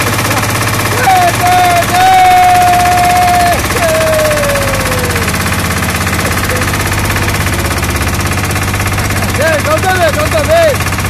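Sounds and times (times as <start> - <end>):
boat engine running hard: 0.0 - 11.0.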